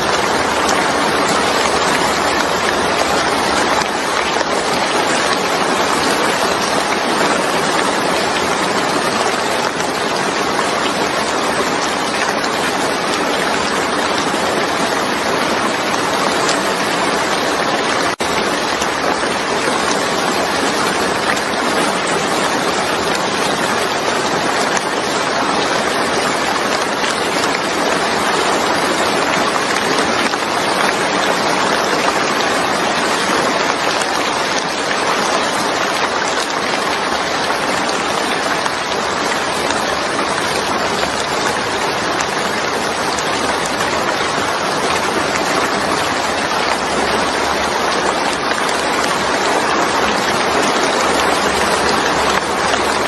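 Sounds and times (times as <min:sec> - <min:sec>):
heavy rain on wet surface: 0:00.0 - 0:53.0.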